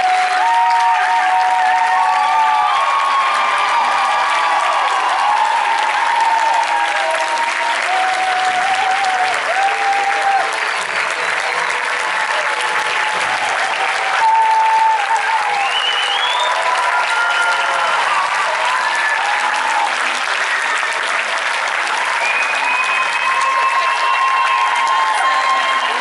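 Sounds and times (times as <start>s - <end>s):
audience applauding: 0.0s - 26.0s
people cheering and whooping: 0.0s - 26.0s.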